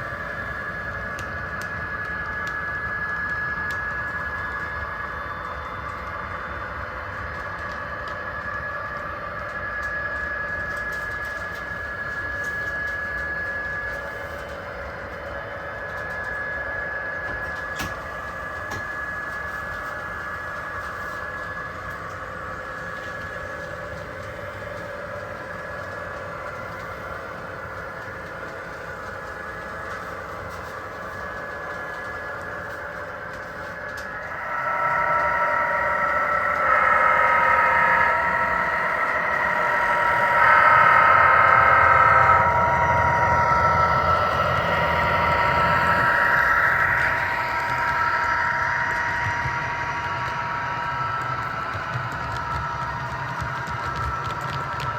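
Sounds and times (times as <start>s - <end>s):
model locomotive motor whine: 0.0s - 54.9s.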